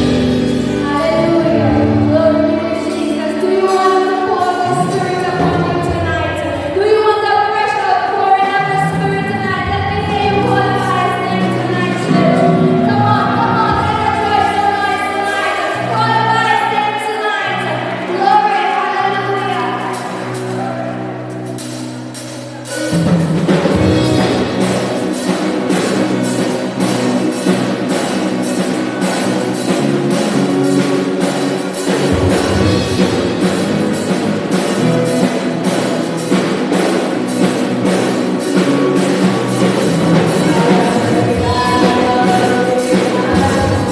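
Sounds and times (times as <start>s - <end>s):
drum kit steady beat: 0.0s - 7.1s, 8.3s - 43.9s
instrumental backing: 0.0s - 43.9s
worship band playing: 0.0s - 43.9s.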